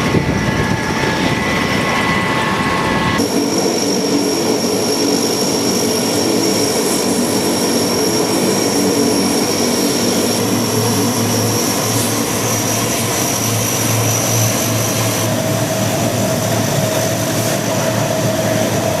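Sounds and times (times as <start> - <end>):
high steady whine: 0.0 - 19.0
low pulsing rotor beat: 0.0 - 19.0
tiltrotor aircraft engines: 0.0 - 19.0.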